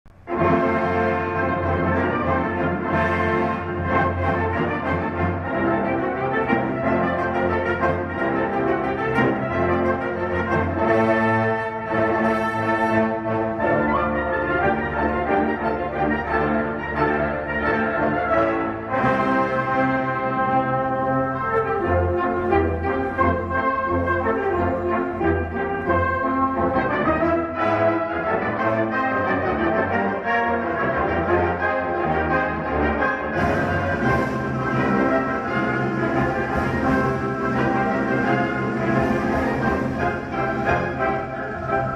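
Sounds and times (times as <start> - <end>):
brass ensemble playing held chords: 0.2 - 41.9.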